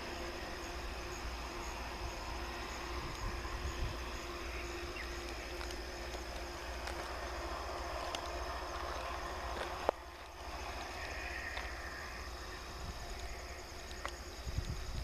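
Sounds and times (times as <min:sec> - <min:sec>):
distant train rumble: 0:00.0 - 0:15.0
insects droning: 0:00.0 - 0:15.0.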